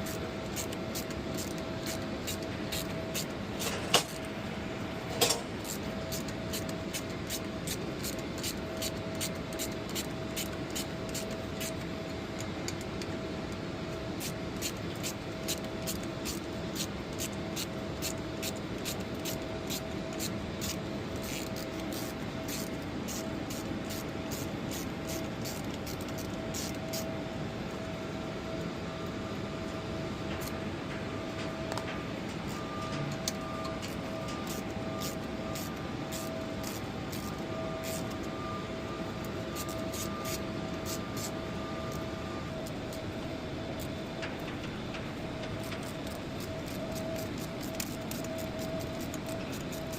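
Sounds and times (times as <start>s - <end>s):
machinery hum with whine: 0.0s - 49.9s.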